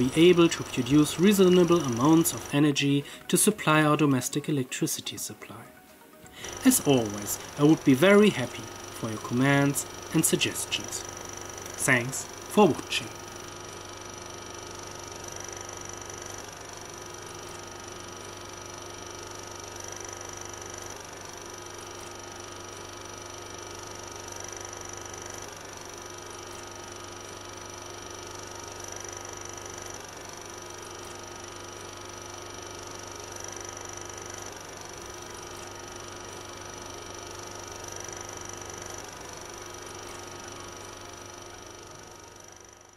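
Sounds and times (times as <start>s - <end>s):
engine hum with mid-pitched tone: 0.0s - 2.6s, 6.4s - 42.9s.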